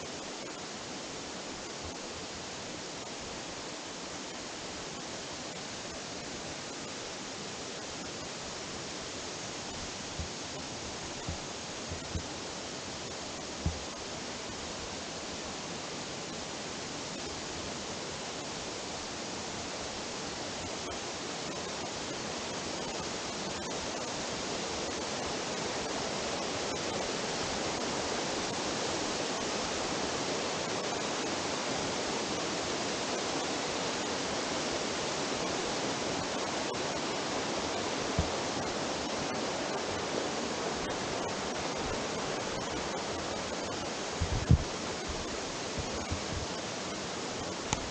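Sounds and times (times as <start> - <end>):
waterfall rushing over rocks: 0.0 - 47.9.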